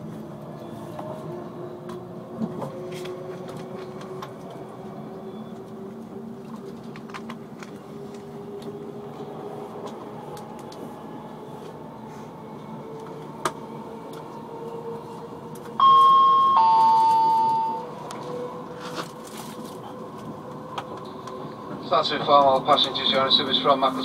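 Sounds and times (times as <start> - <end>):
train running noise: 0.0 - 24.0.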